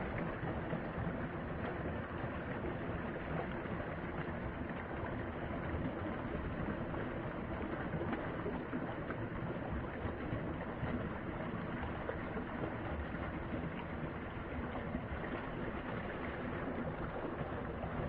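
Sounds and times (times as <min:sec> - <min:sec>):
stream water flowing: 0:00.0 - 0:18.0.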